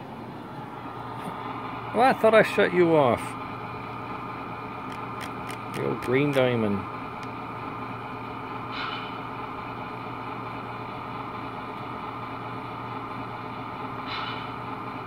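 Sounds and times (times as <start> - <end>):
diesel idle hum: 0.0 - 15.0.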